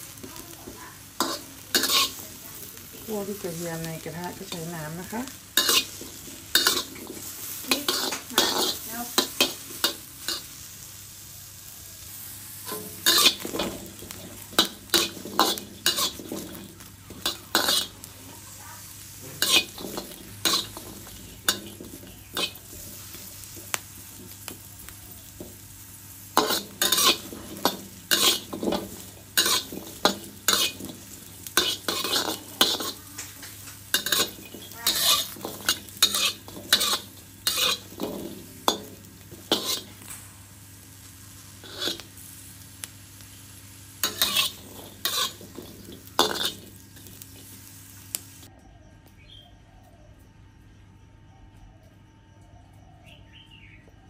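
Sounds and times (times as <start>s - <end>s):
low sizzle: 0.0s - 50.0s
metal spatula scraping wok: 0.2s - 10.8s, 12.2s - 40.3s, 41.3s - 42.4s, 43.5s - 48.1s.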